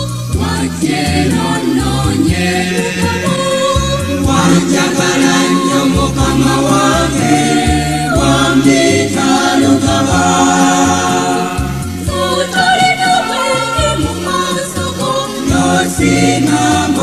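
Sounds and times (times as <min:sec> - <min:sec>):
bass line: 0:00.0 - 0:17.0
choir singing a hymn: 0:00.0 - 0:17.0
instrumental accompaniment: 0:00.0 - 0:17.0.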